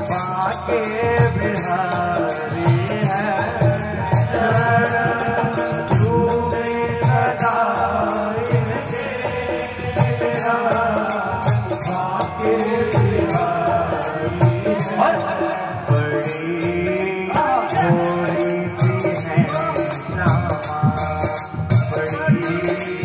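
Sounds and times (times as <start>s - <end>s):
jingling percussion: 0.0s - 23.0s
man singing devotional song: 0.0s - 23.0s.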